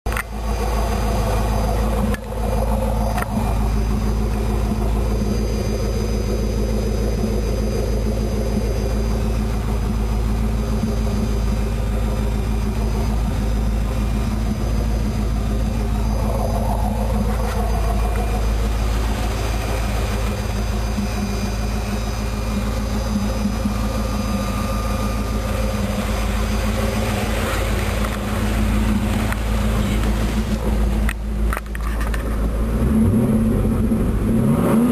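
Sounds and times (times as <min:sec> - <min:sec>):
car engine running: 0:00.0 - 0:34.9
fuel pump high-pitched whine: 0:00.0 - 0:34.9.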